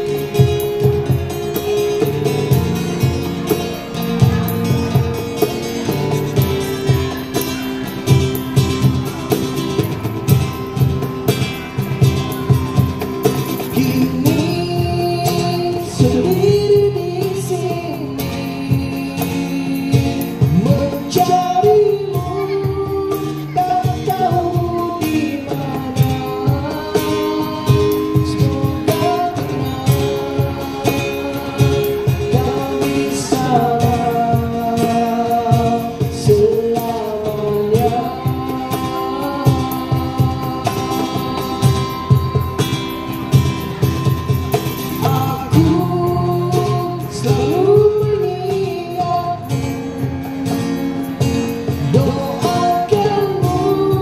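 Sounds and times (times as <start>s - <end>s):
cajon beat: 0.0s - 54.0s
person singing: 0.0s - 54.0s
strummed acoustic guitar: 0.0s - 54.0s.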